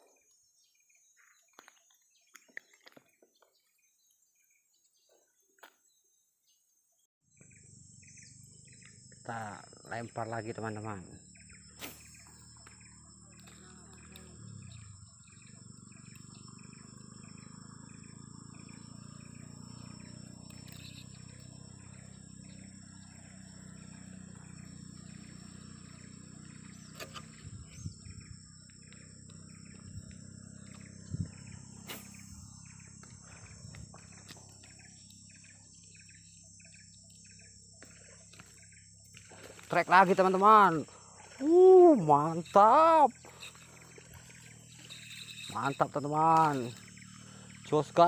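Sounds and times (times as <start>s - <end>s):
insects buzzing: 7.3s - 48.0s
short chirping call: 7.4s - 48.0s.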